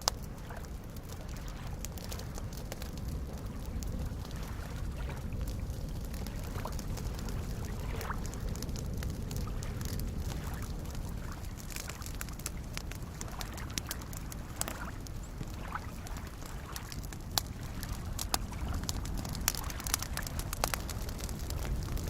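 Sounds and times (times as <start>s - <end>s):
campfire crackling and popping: 0.0s - 22.0s
small waves lapping: 0.0s - 22.0s.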